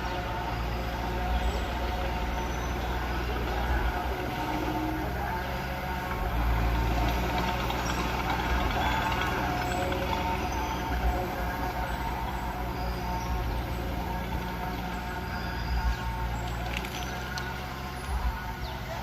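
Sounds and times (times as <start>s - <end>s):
bulldozer diesel engine rumbling: 0.0s - 19.0s.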